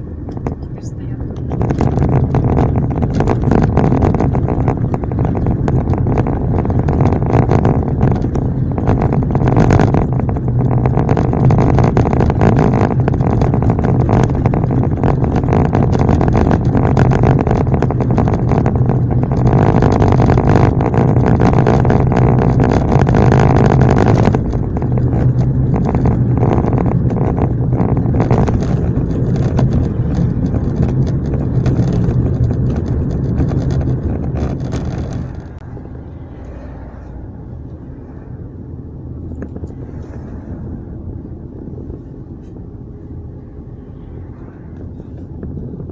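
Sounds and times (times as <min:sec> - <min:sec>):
car engine drone: 0:00.0 - 0:45.9
tyre noise on wet road: 0:00.0 - 0:45.9.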